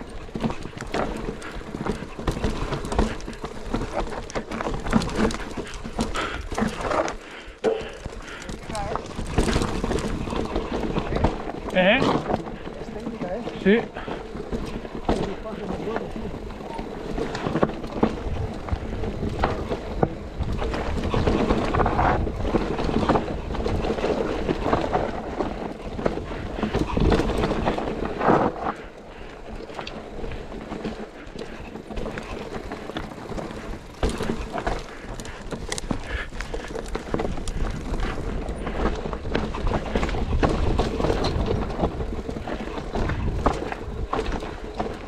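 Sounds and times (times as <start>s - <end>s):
bike rattling and knocking: 0.0s - 45.0s
bike tyre noise on trail: 0.0s - 45.0s.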